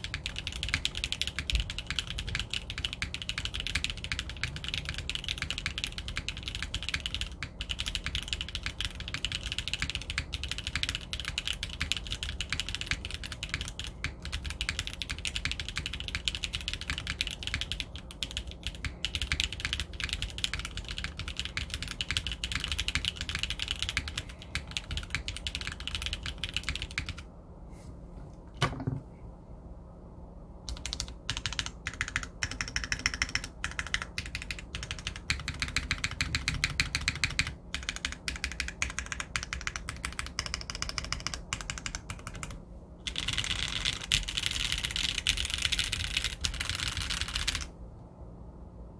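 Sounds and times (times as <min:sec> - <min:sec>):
mechanical keyboard typing: 0:00.0 - 0:27.2, 0:30.7 - 0:47.7.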